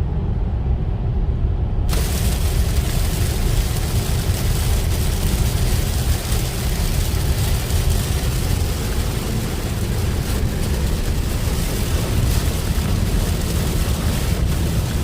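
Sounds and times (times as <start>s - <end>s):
car rumbling on the road: 0.0s - 15.0s
heavy rain on a car: 1.9s - 15.0s
wet road noise: 1.9s - 15.0s.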